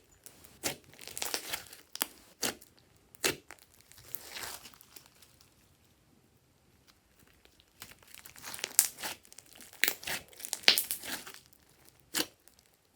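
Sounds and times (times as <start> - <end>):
sticky slime crackles and pops: 0.2 - 5.5, 7.2 - 12.9.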